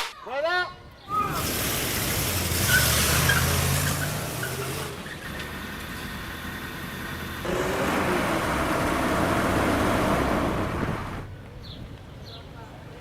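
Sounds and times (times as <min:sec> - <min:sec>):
car and street noise: 0:01.1 - 0:13.0.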